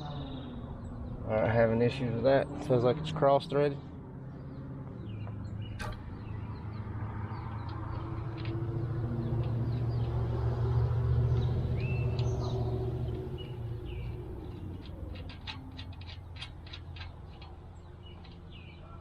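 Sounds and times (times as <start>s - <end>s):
low motor hum: 0.0s - 18.9s.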